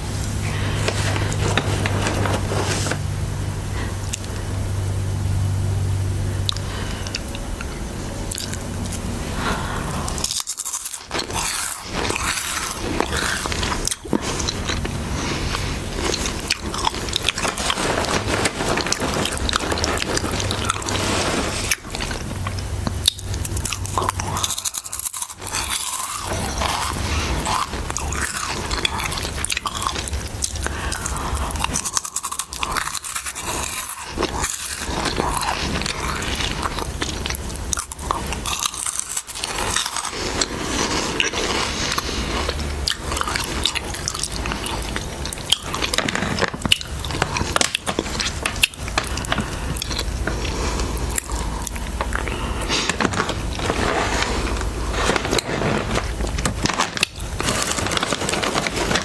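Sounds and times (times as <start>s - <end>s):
crunching and chewing crisps: 0.0s - 59.0s.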